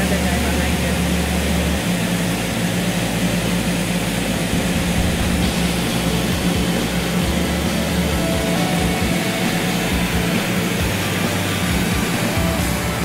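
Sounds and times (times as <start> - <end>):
propeller engine drone in cabin: 0.0 - 13.0.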